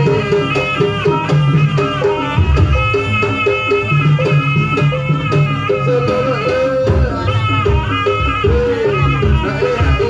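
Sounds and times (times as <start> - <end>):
drums beating: 0.0 - 10.0.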